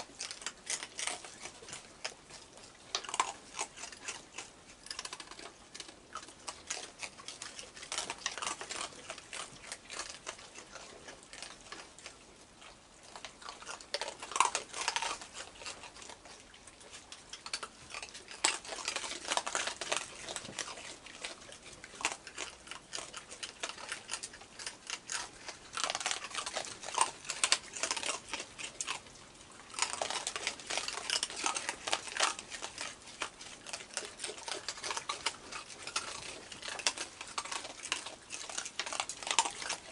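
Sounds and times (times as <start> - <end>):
raccoons crunching dry food: 0.0 - 39.9.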